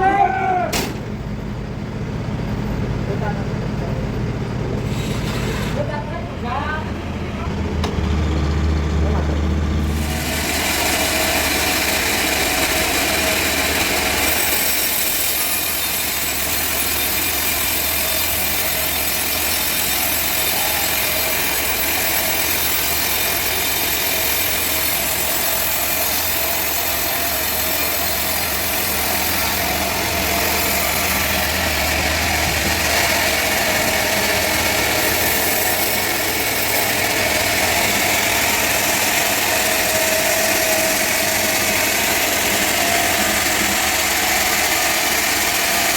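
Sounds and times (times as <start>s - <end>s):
saw cutting through log: 4.9s - 5.9s, 9.7s - 45.9s.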